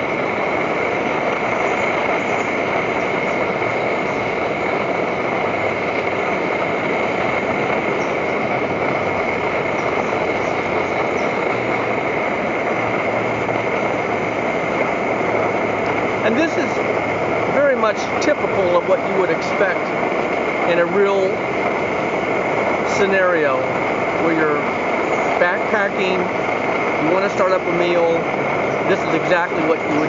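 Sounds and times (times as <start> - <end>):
stove burner rushing: 0.0 - 30.0.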